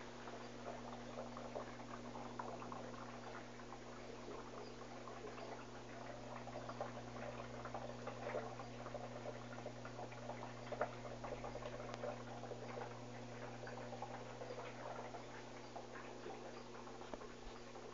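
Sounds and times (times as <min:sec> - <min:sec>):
clicks and splashes: 0:00.0 - 0:17.9
washing machine humming: 0:00.0 - 0:17.9.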